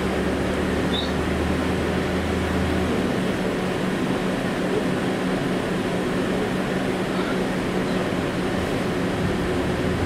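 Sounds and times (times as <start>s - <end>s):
steady hum: 0.0s - 10.0s
tram running on track: 0.0s - 10.0s.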